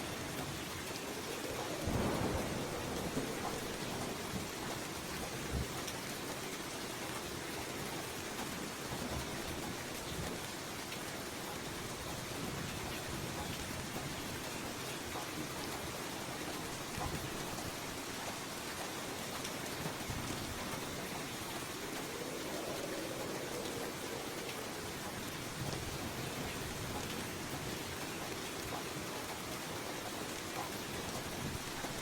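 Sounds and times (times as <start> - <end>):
low rumble of thunder: 0.0 - 10.6, 11.3 - 32.0
steady rain hiss: 0.0 - 32.0.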